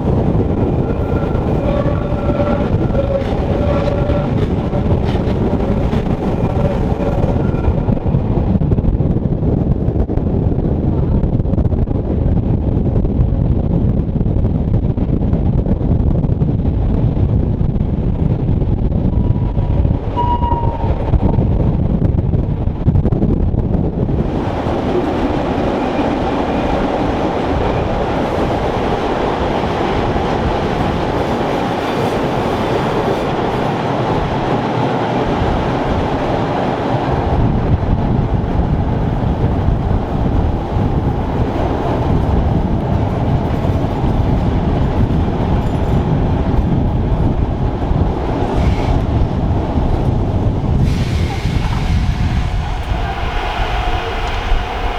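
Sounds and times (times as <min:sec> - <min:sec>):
train rumbling: 0:00.0 - 0:54.9.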